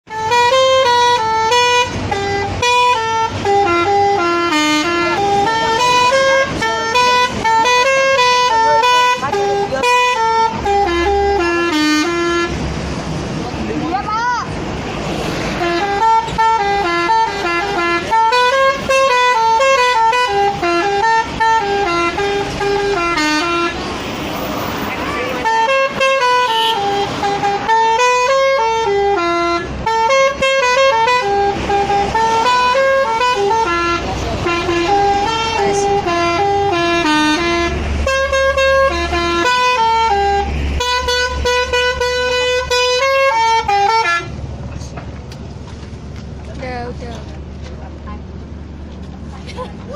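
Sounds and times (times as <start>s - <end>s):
multi-tone bus horn tune: 0.1s - 12.8s, 15.2s - 44.4s.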